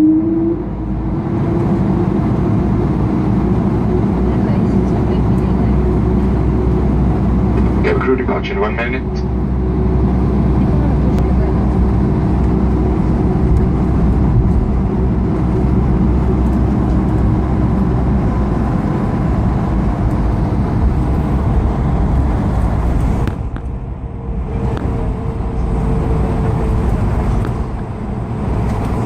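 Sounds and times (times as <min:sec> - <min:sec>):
aircraft cabin engine rumble: 0:00.0 - 0:29.0.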